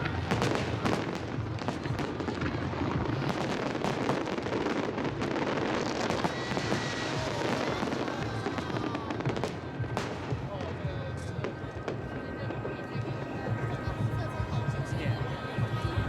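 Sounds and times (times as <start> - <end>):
continuous fireworks rumble: 0.0 - 16.0.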